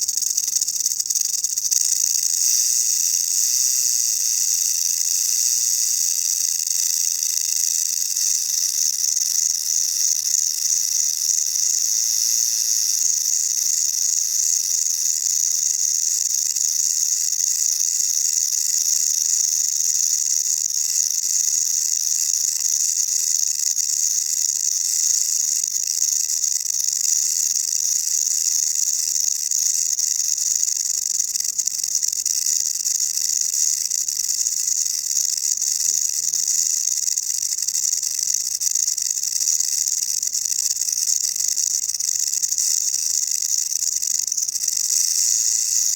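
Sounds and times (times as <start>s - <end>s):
rattlesnake tail rattle buzzing: 0.0s - 45.9s.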